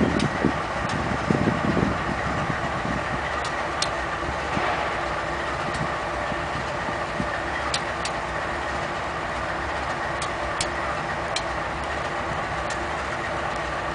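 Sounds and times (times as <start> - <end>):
diesel locomotives rumbling: 0.0 - 13.9.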